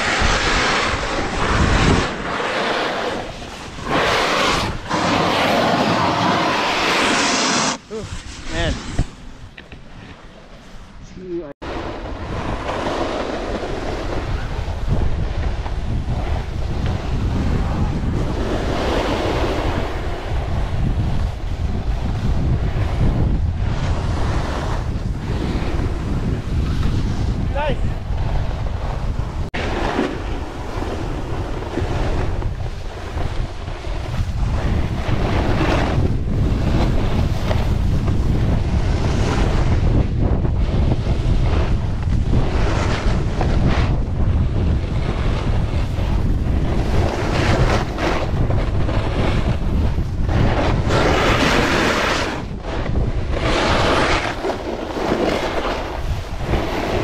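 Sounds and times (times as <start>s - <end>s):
wind buffeting microphone: 0.0s - 6.8s, 7.7s - 57.0s
snowboard edge scraping snow: 0.0s - 57.0s.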